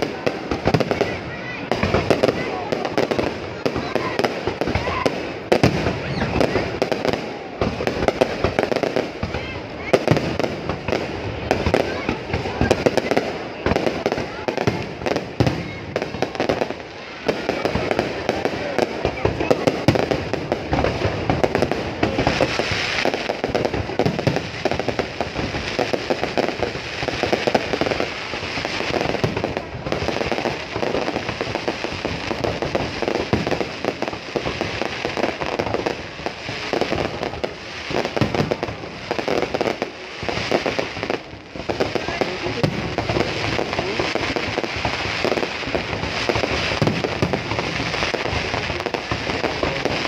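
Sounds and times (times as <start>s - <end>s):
fireworks bursts and crackles: 0.0s - 50.0s.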